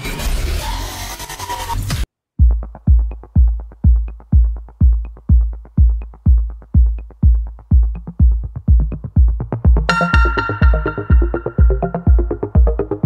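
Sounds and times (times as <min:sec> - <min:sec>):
deep kick drum beating: 0:02.4 - 0:13.0
electronic music: 0:02.4 - 0:13.0.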